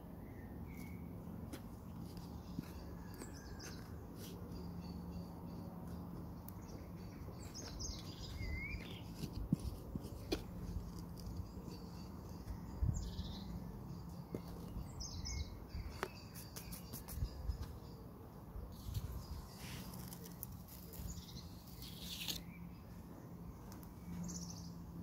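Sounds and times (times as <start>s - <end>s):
small birds chirping: 0.2s - 25.0s.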